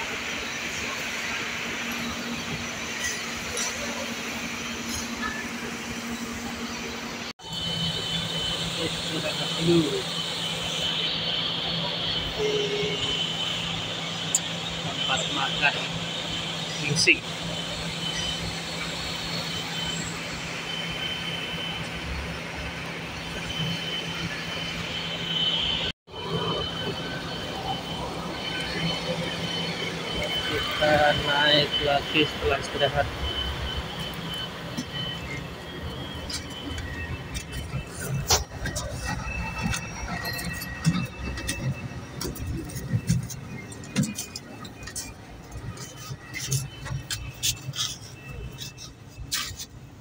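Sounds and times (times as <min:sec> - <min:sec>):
bus low rumble: 0:00.0 - 0:50.0
faint high whine: 0:00.0 - 0:50.0
low mechanical drone: 0:00.0 - 0:50.0.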